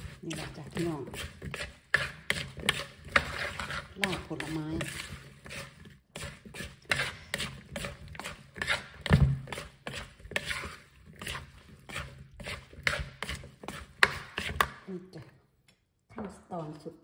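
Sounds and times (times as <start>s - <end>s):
plastic spoon scraping in bowl: 0.0s - 14.8s.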